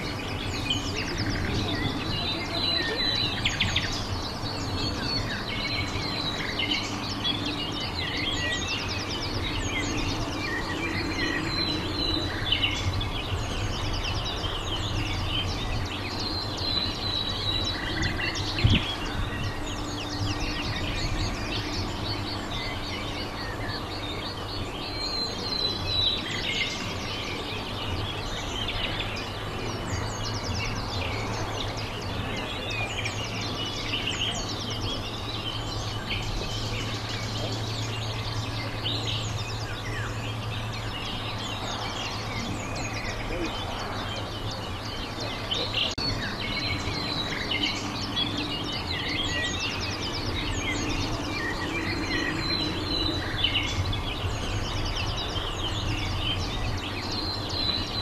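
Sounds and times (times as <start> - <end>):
outdoor background noise: 0.0 - 58.0
small birds chirping: 0.0 - 58.0.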